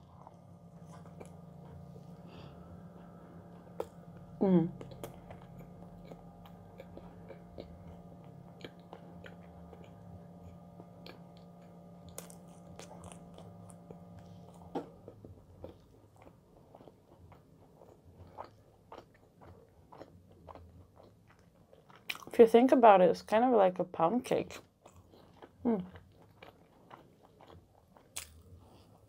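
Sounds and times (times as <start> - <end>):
chewing crunchy bread: 0.0 - 22.8, 24.4 - 29.0.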